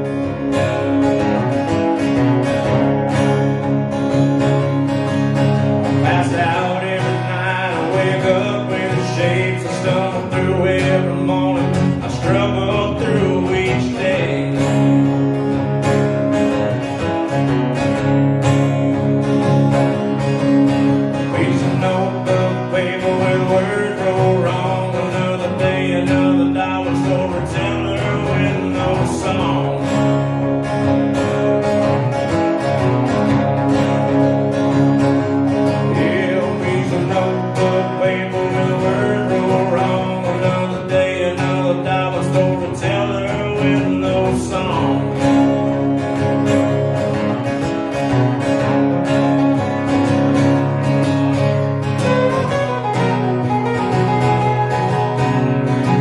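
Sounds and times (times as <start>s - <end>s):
acoustic guitar strumming and picking: 0.0s - 56.0s.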